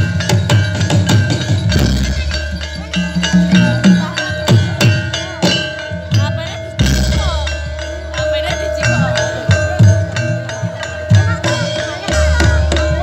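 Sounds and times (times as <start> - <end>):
drums: 0.0 - 13.0
metal gong-chime percussion: 0.0 - 13.0
steady ringing tone: 0.0 - 13.0.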